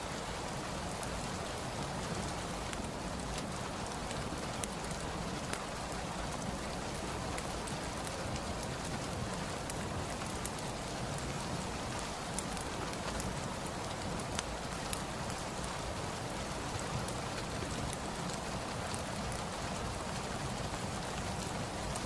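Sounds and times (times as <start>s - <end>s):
steady rain falling: 0.0s - 22.0s
wood fire crackling: 0.1s - 22.0s.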